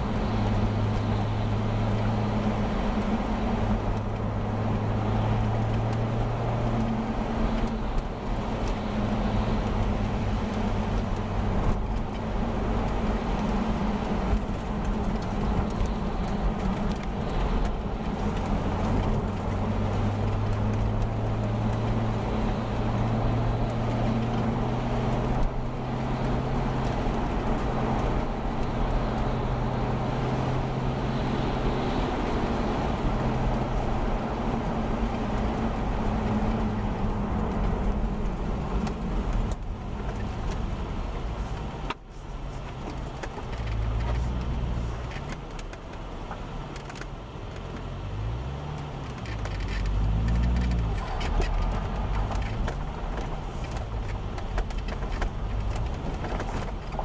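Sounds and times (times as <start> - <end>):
car engine hum: 0.0 - 57.0
tyres on wet road: 0.0 - 57.0.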